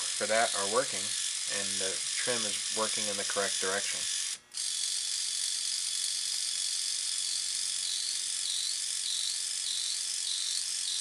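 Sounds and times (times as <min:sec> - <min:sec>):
servo motor whirring: 0:00.0 - 0:11.0.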